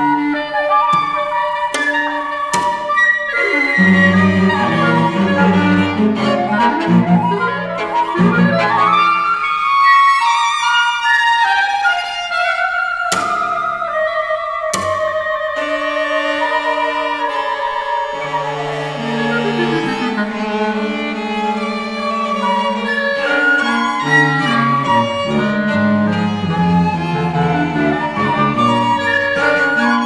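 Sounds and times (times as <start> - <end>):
classical string music: 0.0 - 30.0.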